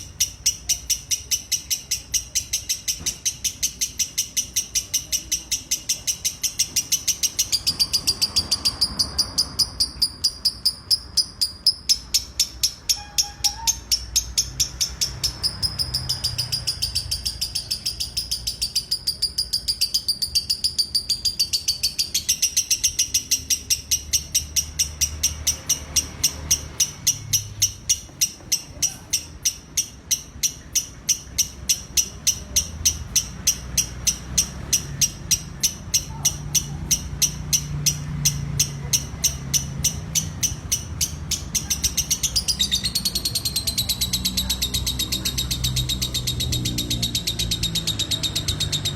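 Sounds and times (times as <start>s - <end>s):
lovebird chattering: 0.0s - 48.9s.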